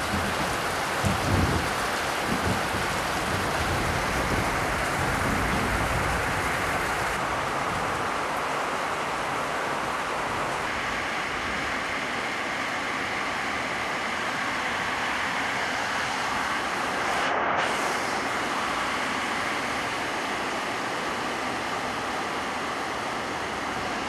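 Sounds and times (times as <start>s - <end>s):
rain on metal roofing: 0.0s - 24.0s.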